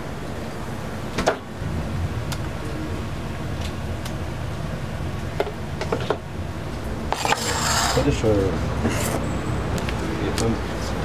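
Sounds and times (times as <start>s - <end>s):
low kitchen hum: 0.0s - 9.7s.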